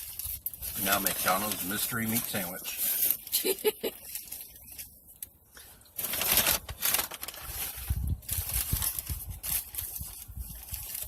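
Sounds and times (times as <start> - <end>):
paper wrapper rustling: 0.0 - 5.0, 6.0 - 11.0.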